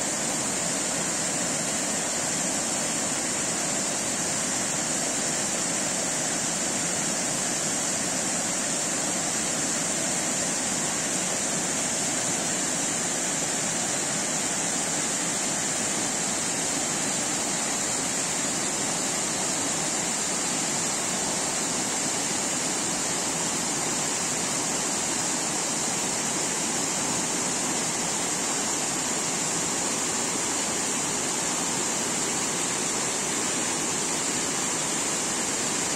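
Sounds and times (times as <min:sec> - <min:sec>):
creek water rushing over rocks: 0:00.0 - 0:35.9.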